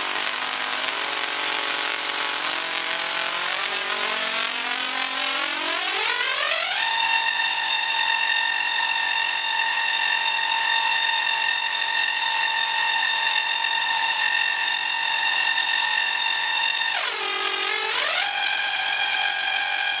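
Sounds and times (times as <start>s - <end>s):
tesla coil buzzing: 0.0s - 20.0s.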